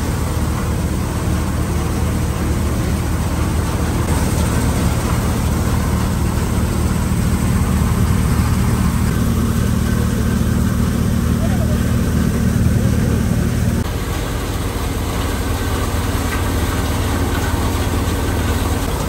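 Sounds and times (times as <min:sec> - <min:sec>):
low engine drone: 0:00.0 - 0:19.0
noisy rush of working machine: 0:00.0 - 0:19.0.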